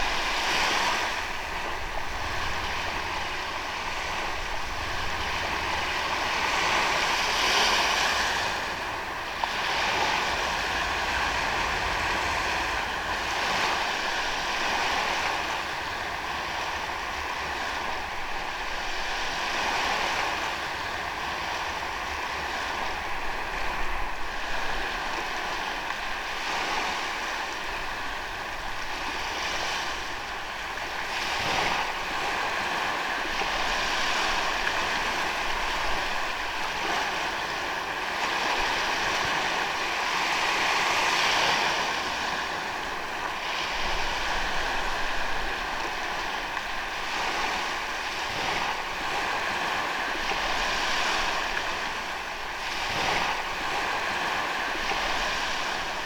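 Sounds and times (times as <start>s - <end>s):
ocean waves on sandy beach: 0.0s - 56.0s.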